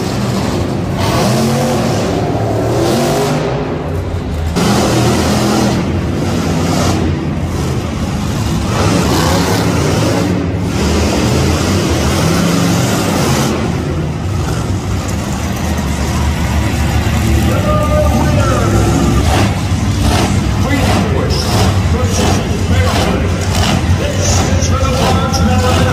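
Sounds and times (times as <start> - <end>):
monster truck engine revving: 0.0 - 25.9.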